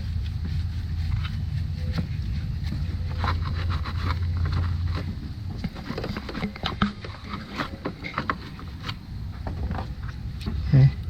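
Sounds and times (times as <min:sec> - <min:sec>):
small clicks and scrapes of hand work: 0:00.0 - 0:10.7
steady low hum: 0:00.0 - 0:11.0.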